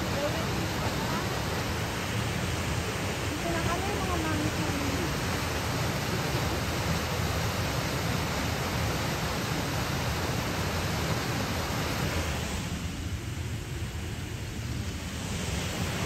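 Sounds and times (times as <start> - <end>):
waterfall roaring over weir: 0.0 - 16.0.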